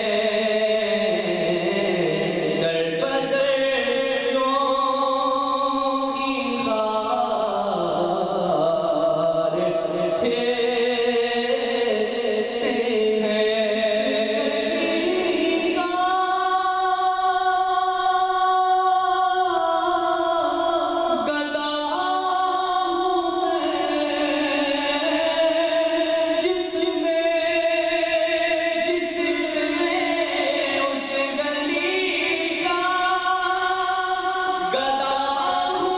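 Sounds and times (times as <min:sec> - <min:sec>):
person singing through microphone: 0:00.0 - 0:35.9.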